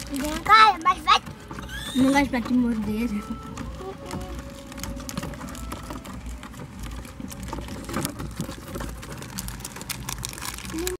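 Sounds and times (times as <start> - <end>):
rodent claws scrabbling on plastic: 0.0 - 11.0.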